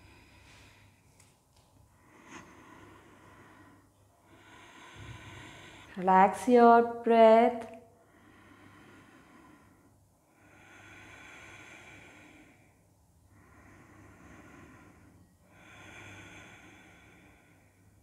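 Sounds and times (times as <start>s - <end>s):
woman breathing through nose: 0.0s - 1.0s, 1.9s - 6.0s, 8.0s - 18.0s.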